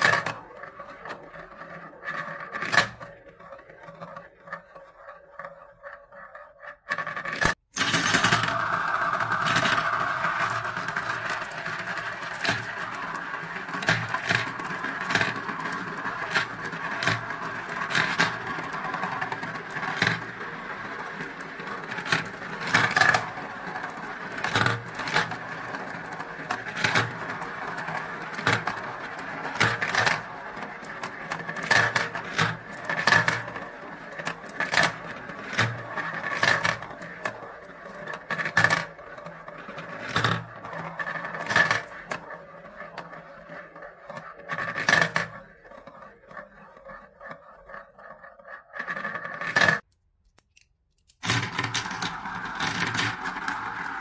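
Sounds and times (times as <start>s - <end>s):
marbles rolling in plastic bowls: 0.0s - 50.0s, 51.2s - 54.0s.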